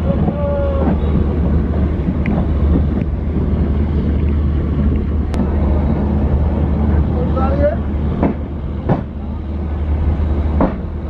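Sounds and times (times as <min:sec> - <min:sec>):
train coach rumbling: 0:00.0 - 0:11.0.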